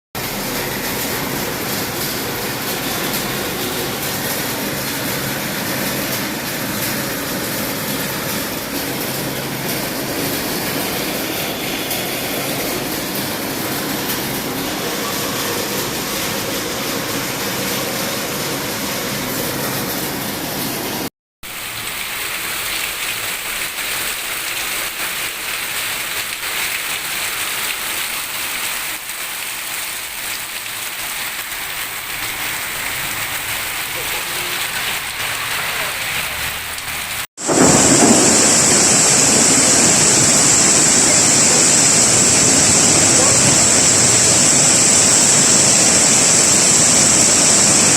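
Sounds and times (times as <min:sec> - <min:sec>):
heavy rain and hail: 0:00.2 - 0:47.9.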